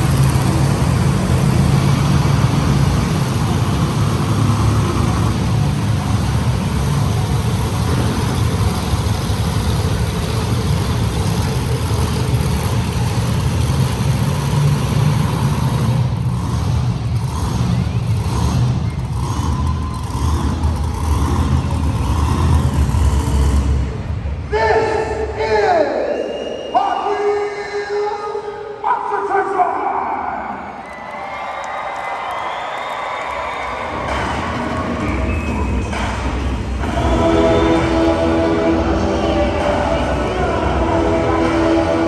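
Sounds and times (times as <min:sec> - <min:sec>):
monster truck engines rumbling: 0:00.0 - 0:42.0.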